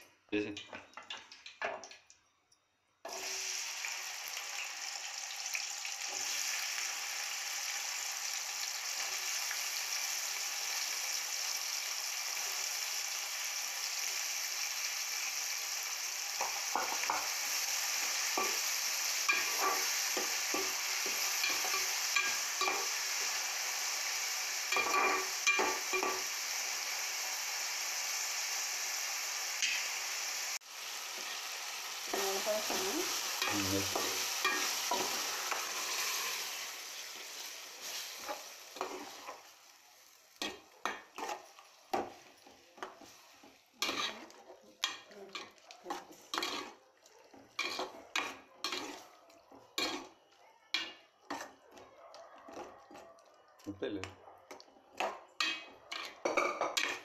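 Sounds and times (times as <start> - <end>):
vegetables sizzling in hot oil: 3.0 - 51.6, 54.9 - 57.0.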